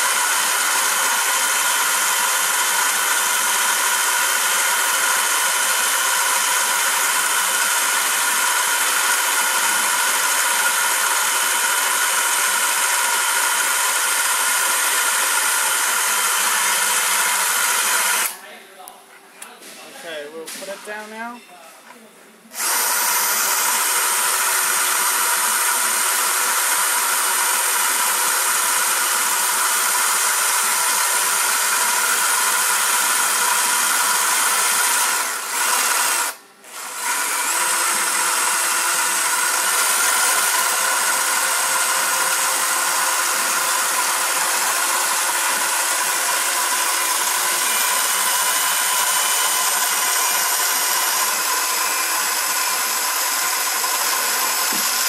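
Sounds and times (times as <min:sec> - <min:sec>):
cordless drill whining: 0:00.0 - 0:18.4, 0:22.5 - 0:55.0.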